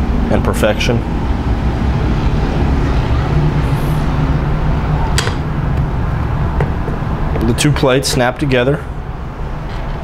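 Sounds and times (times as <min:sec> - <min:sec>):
low hum and rumble: 0:00.0 - 0:10.0.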